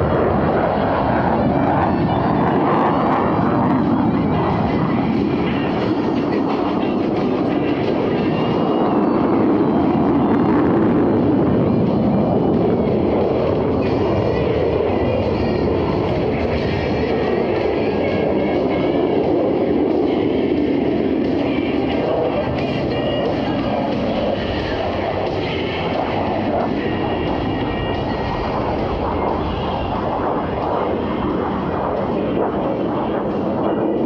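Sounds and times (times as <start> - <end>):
jet engine roar with whine: 0.0 - 34.0.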